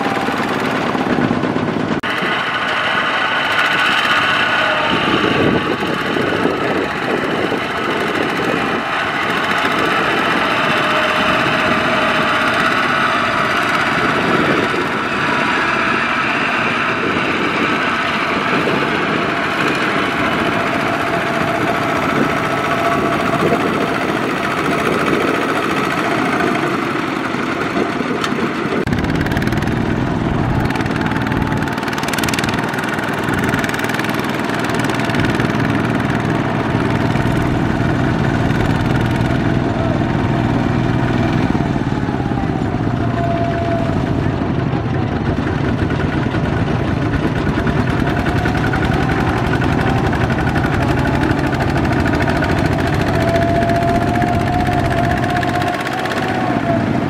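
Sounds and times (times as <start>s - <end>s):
diesel tractor engines running: 0.0s - 57.0s.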